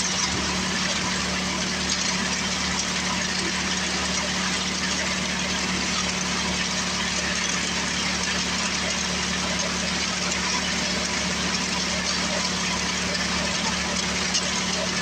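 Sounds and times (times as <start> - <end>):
snowblower engine running: 0.0 - 15.0.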